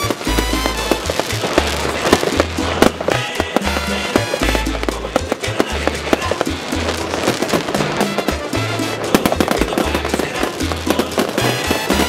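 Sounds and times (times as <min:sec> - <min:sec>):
fireworks bangs and crackling: 0:00.0 - 0:12.0
music with pulsing bass: 0:00.0 - 0:12.0.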